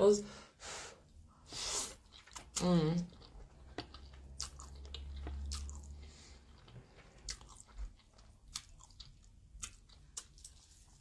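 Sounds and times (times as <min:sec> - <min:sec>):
person chewing and slurping noodles: 0:01.4 - 0:11.0.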